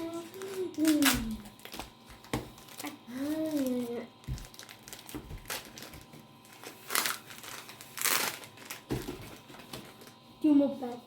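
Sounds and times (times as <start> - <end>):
foil wrappers crinkling: 0.0 - 10.2.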